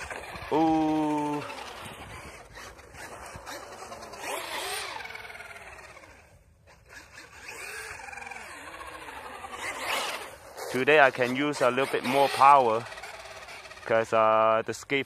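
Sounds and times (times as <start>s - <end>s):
toy truck motor whining: 0.0s - 14.0s.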